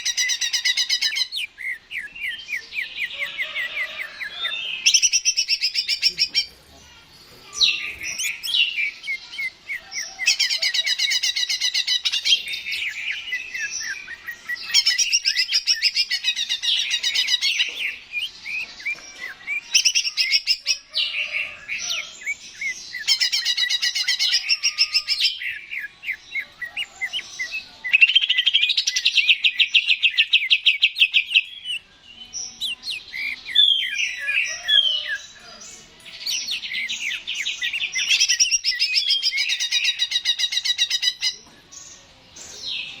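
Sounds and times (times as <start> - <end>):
bird singing trilled notes: 0.0 - 6.6, 7.4 - 43.0.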